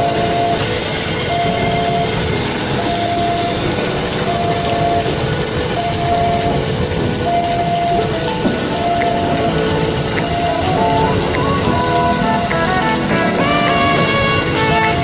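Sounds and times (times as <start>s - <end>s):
level-crossing warning tone: 0.0s - 15.0s.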